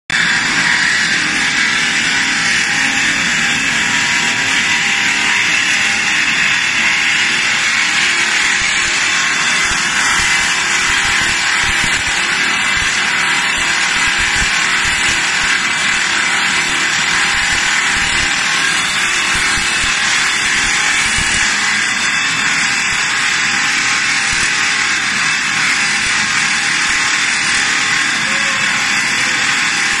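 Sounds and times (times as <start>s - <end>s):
lathe grinding stone: 0.2s - 30.0s.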